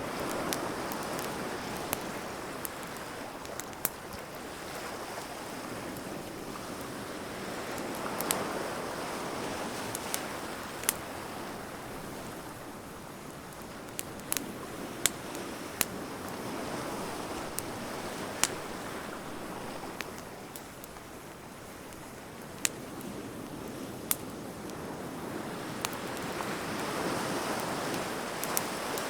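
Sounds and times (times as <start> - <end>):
bonfire crackling: 0.0 - 29.0.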